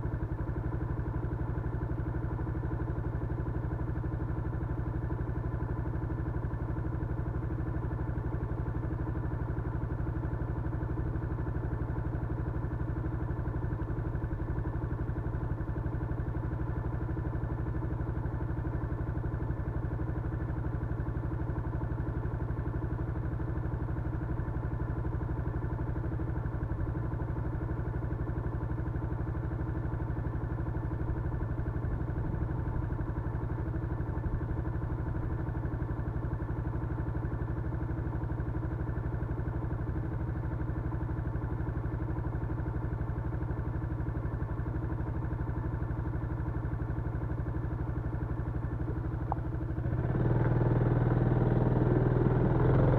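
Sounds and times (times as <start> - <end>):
motorcycle engine running steadily: 0.0 - 52.9.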